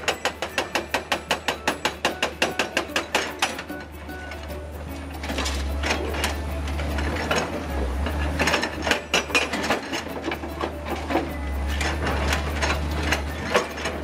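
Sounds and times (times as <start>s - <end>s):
hydraulic breaker hammering concrete: 0.0s - 4.0s, 5.0s - 14.0s
excavator engine drone: 0.0s - 14.0s.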